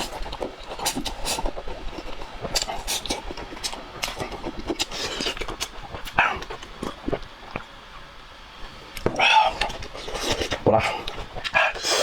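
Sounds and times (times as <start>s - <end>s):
chewing crisp food: 0.0s - 8.1s, 8.9s - 12.0s.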